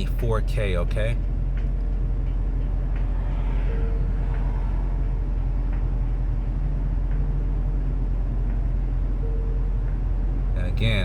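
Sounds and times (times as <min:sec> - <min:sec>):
constant low hum: 0:00.0 - 0:11.0
road traffic rumble: 0:00.0 - 0:11.0.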